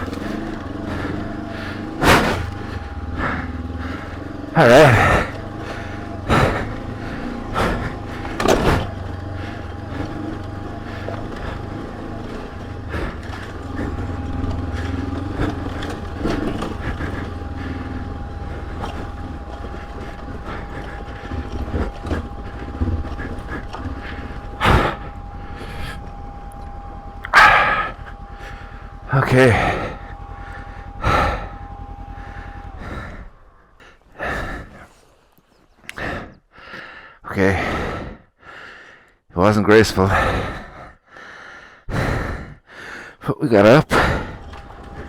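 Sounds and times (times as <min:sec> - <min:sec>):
motorcycle hitting bumps: 0:00.0 - 0:36.4, 0:43.9 - 0:45.0
motorcycle engine under load: 0:00.0 - 0:45.0.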